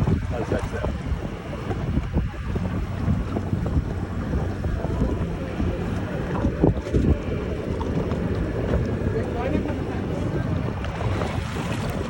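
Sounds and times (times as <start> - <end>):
surf washing on beach: 0.0 - 12.0
wind buffeting microphone: 0.0 - 12.0.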